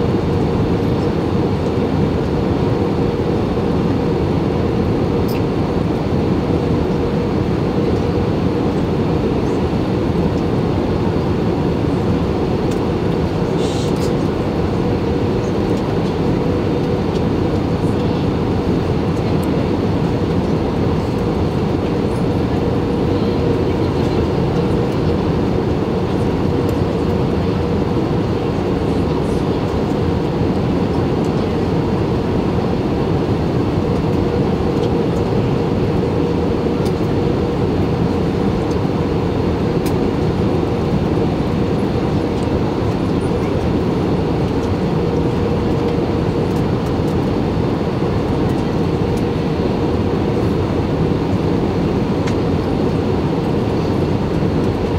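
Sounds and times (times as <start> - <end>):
jet engines in cabin: 0.0 - 54.9.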